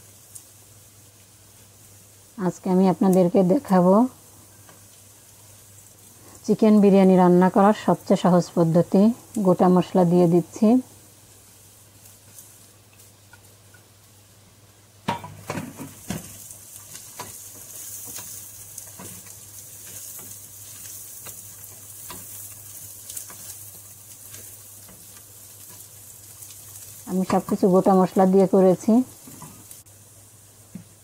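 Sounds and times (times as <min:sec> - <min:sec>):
onions sizzling in oil: 0:00.0 - 0:31.0.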